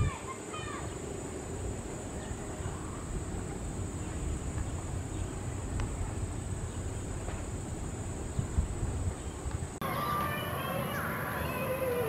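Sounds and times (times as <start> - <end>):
distant jet engines rumbling: 0.0 - 12.0
high insect drone: 0.0 - 12.0.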